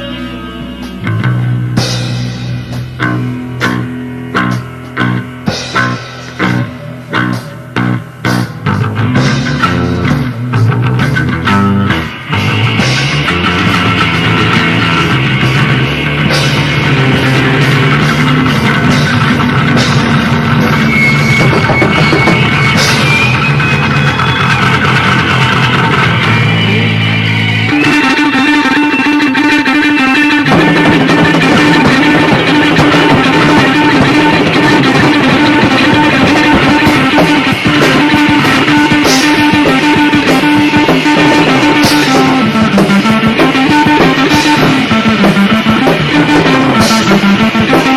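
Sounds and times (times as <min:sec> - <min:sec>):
distorted electric guitar: 0:00.0 - 0:47.9
drum kit playing: 0:00.0 - 0:47.9.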